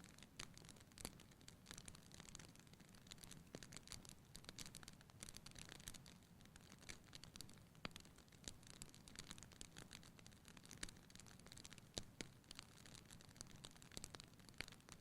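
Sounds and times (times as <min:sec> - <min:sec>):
rustle of flames: 0:00.0 - 0:15.0
wood fire crackling and popping: 0:00.0 - 0:15.0.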